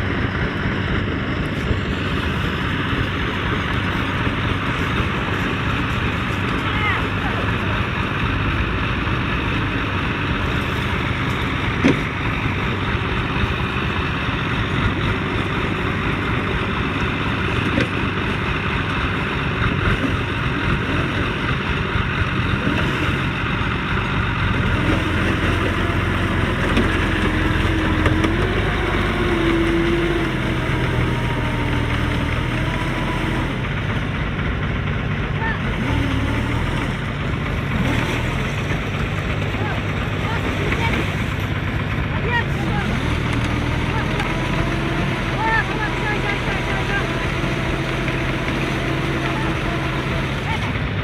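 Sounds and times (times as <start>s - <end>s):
heavy vehicle engine running: 0.0s - 51.0s.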